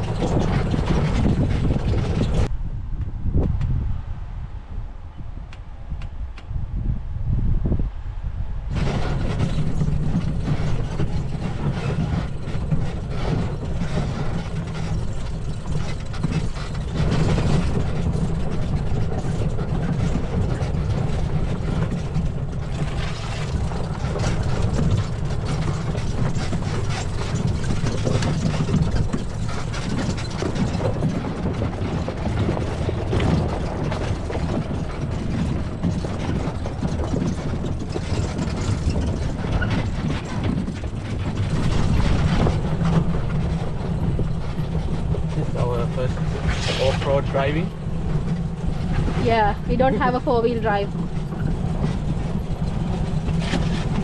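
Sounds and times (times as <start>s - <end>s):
knocking and rattling: 0.0s - 2.5s, 8.8s - 54.0s
vehicle tyres rumbling on dirt: 0.0s - 7.9s, 8.6s - 54.0s.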